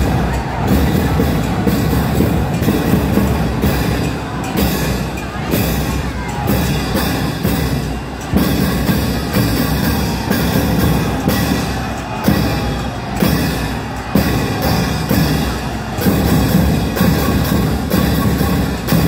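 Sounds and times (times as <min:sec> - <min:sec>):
festival procession music with drums: 0:00.0 - 0:19.0
sharp percussion hits: 0:00.0 - 0:19.0.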